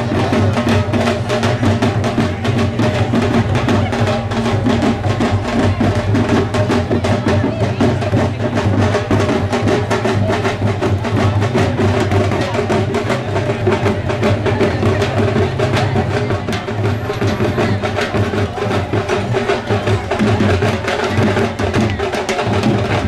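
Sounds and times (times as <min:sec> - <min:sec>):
drum beat: 0:00.0 - 0:23.0.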